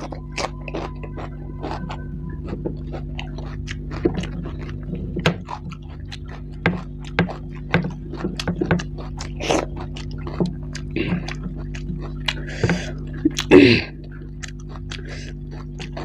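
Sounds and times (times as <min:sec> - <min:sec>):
low hum: 0:00.0 - 0:16.0
wet chewing and lip smacks: 0:00.0 - 0:16.0.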